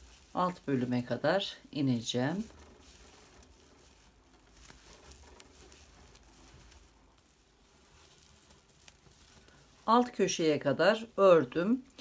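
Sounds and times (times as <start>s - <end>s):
yarn rustling: 0.0s - 12.0s.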